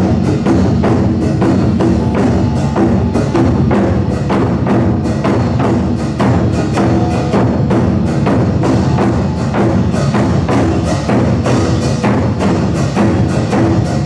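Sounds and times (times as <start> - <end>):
cymbals: 0.0 - 14.0
drum ensemble playing: 0.0 - 14.0.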